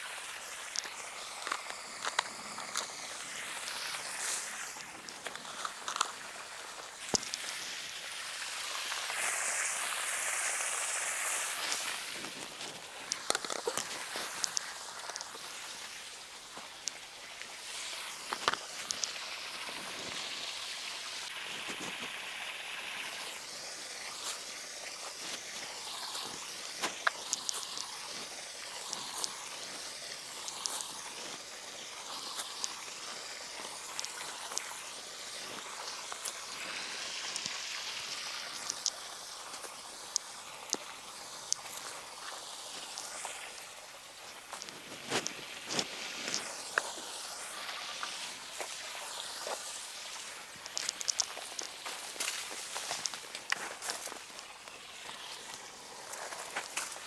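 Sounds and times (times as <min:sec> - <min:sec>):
steady high hiss: 0:00.0 - 0:57.0.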